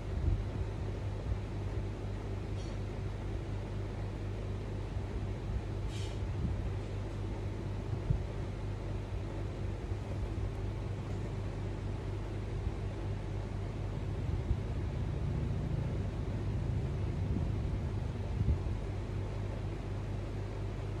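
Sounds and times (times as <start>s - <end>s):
low hum with faint hiss: 0.0s - 21.0s.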